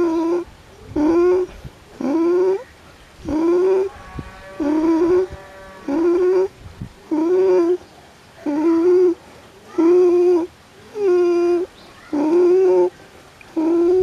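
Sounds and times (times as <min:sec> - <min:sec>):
pigeon cooing: 0:00.0 - 0:02.7, 0:03.3 - 0:04.0, 0:04.6 - 0:13.0, 0:13.6 - 0:14.0.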